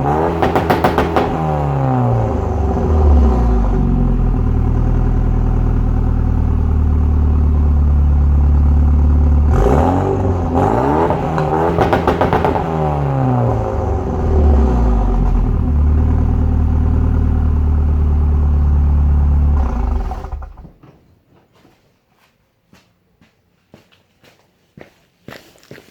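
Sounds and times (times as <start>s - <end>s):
car engine idling and revving: 0.0s - 20.8s.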